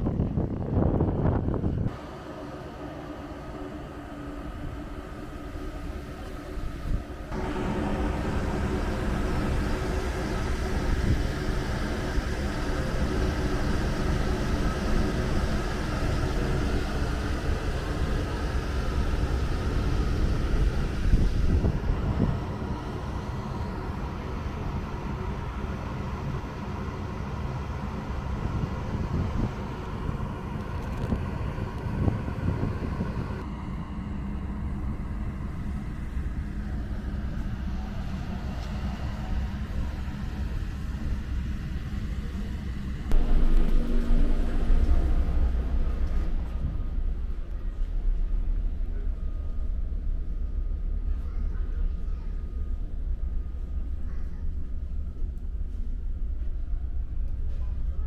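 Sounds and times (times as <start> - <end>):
wind rumble on microphone: 0.0 - 2.1, 4.2 - 58.0
ship engines rumbling: 0.0 - 58.0.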